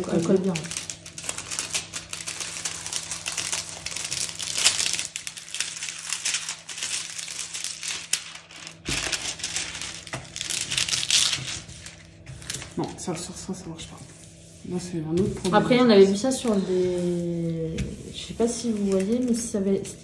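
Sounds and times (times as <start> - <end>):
plastic film crinkling: 0.0 - 14.5, 16.0 - 20.0.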